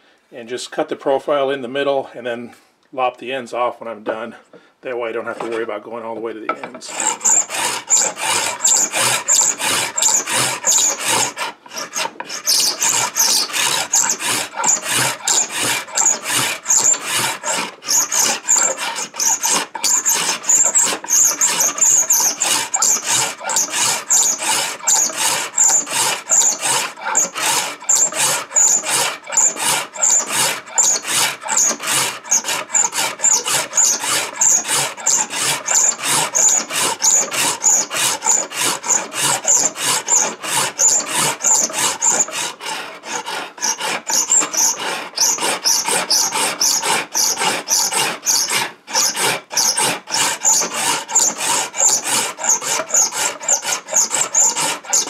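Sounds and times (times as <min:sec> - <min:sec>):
scraper rasping on wood: 0:06.7 - 0:55.0.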